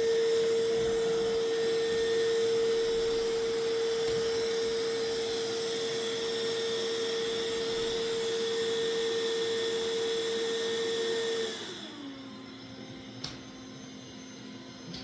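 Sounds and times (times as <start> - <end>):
robot vacuum fan whine: 0.0 - 15.0.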